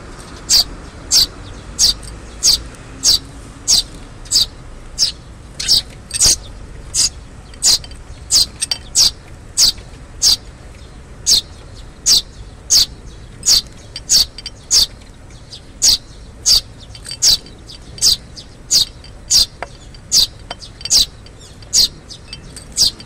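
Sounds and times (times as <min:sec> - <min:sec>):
sparrows chirping: 0:00.0 - 0:23.0.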